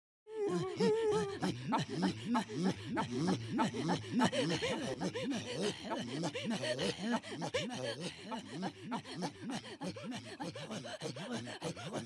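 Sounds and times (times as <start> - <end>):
women throat singing: 0.3 - 12.0.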